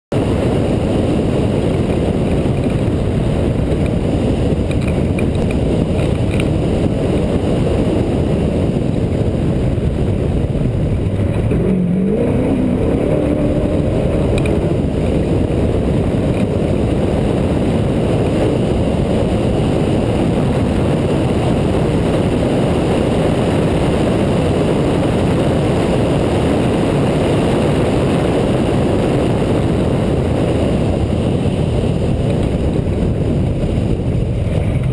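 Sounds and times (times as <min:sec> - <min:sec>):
race truck engine rumble: 0:00.1 - 0:34.9.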